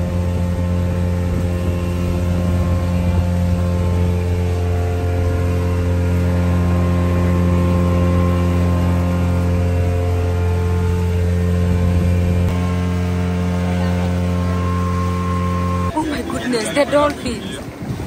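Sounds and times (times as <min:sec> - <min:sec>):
hull rushing through water: 0:00.0 - 0:18.0
motorboat engine droning: 0:00.0 - 0:18.0.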